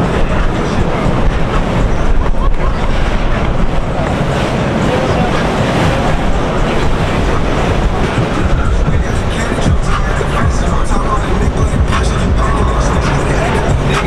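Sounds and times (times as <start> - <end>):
boat motor: 0.0 - 14.0
indistinct voices: 0.0 - 14.0
water noise: 0.0 - 14.0
wind buffeting microphone: 0.0 - 14.0.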